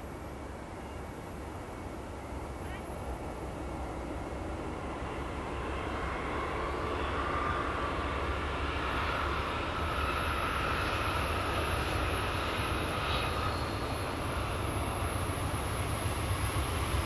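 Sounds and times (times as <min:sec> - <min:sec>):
train approaching rumble: 0:00.0 - 0:17.0.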